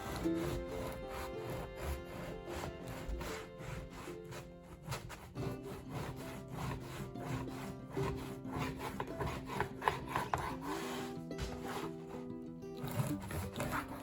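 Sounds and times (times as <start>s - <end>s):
soft background music: 0.0s - 14.0s
wooden spoon scraping pot: 0.0s - 14.0s.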